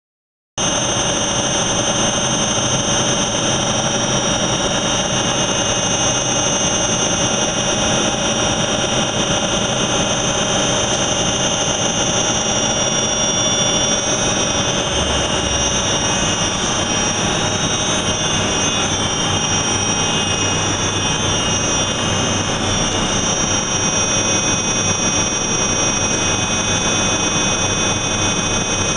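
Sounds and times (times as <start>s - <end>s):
fan shaft whirring: 0.6s - 28.9s
high-pitched whine: 0.6s - 28.9s.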